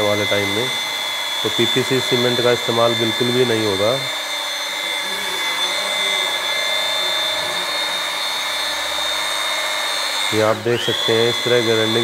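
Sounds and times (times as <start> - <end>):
electric mixer stirring adhesive: 0.0 - 12.0.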